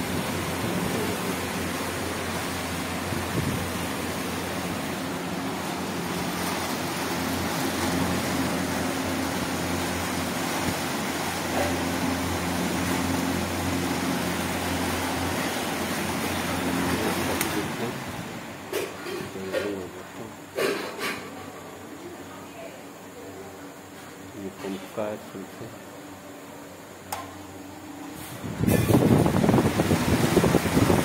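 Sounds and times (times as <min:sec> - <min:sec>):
exhaust fan running: 0:00.0 - 0:20.6, 0:23.5 - 0:31.0.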